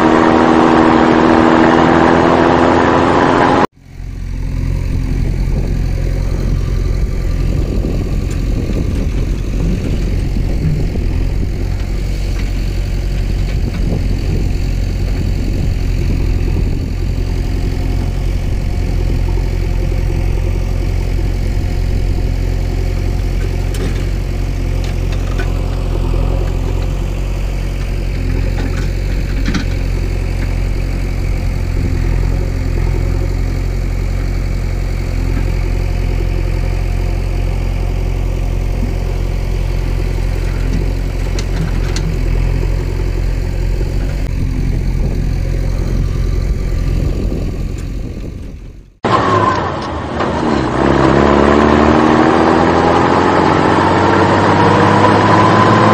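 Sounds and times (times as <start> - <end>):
engine idling rumble: 3.8 - 49.1.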